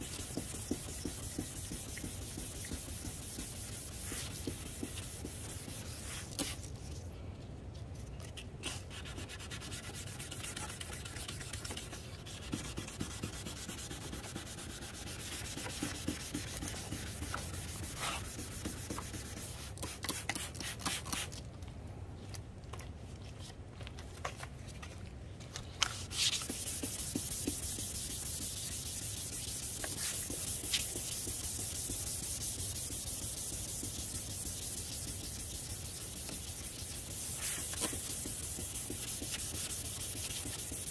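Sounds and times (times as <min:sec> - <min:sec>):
sandpaper rubbing on plastic: 0:00.0 - 0:06.7, 0:08.6 - 0:21.3, 0:25.9 - 0:40.9.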